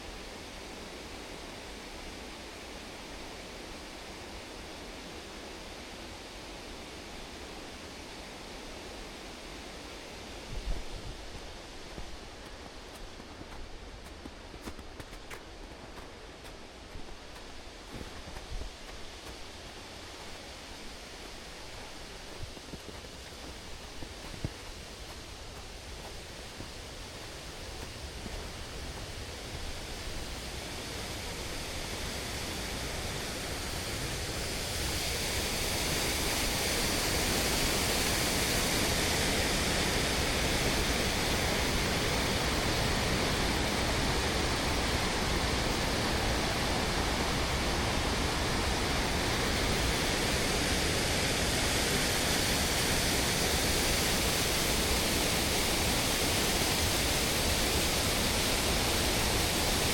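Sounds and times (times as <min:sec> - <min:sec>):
fast-flowing water rushing: 0:08.7 - 0:59.9.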